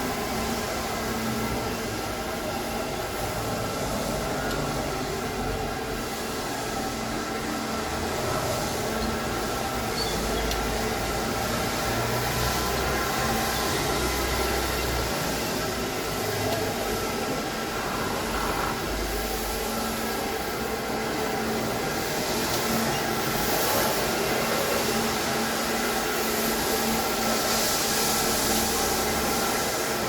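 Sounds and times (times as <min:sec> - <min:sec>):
floor scrubbing machine running: 0:00.0 - 0:30.0.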